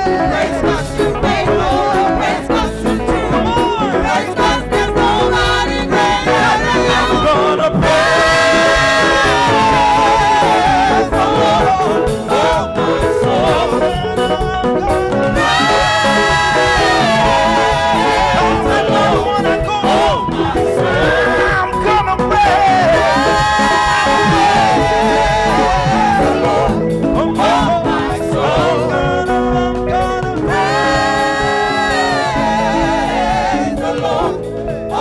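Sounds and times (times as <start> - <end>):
live band with drums: 0.0 - 35.0
people singing held notes: 0.0 - 35.0.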